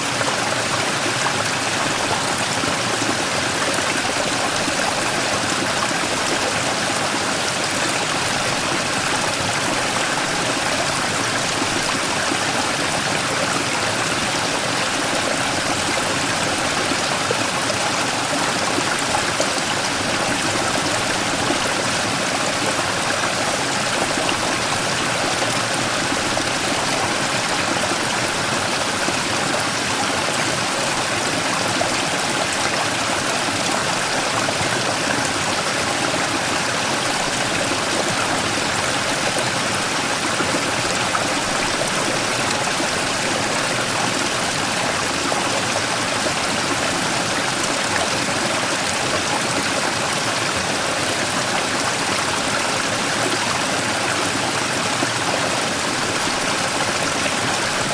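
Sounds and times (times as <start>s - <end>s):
stream rushing over rock: 0.0s - 57.9s.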